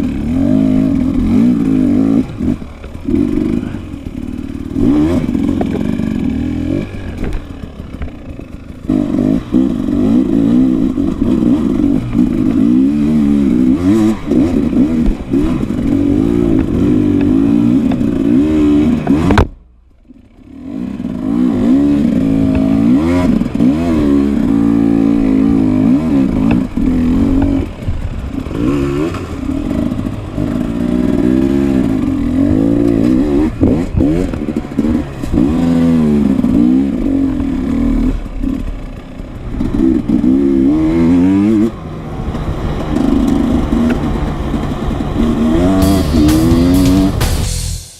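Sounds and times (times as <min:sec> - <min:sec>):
dirt bike engine revving: 0:00.0 - 0:19.6, 0:20.2 - 0:47.9.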